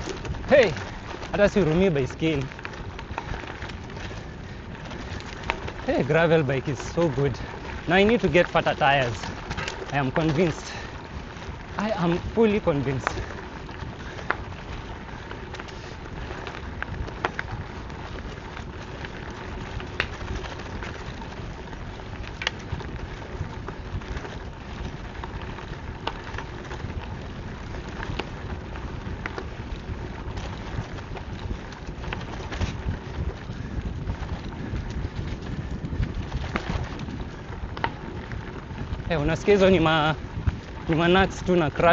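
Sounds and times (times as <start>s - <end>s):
bike tyres rolling on dirt: 0.0s - 41.9s
sharp cracks and crackles: 0.0s - 41.9s
wind rumble on microphone: 0.0s - 41.9s.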